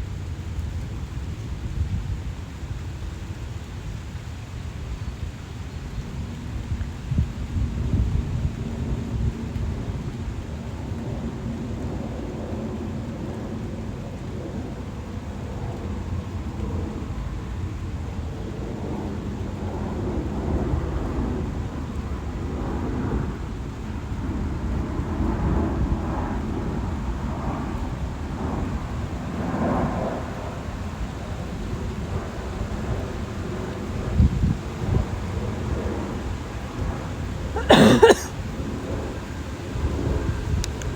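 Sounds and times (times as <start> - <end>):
wind buffeting microphone: 0.0 - 18.2, 18.8 - 37.5.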